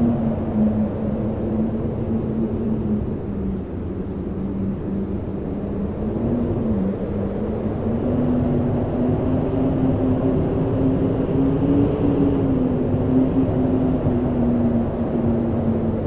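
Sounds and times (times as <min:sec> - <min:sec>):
rumble of gusting air: 0:00.0 - 0:16.0
wind howling: 0:00.0 - 0:16.0.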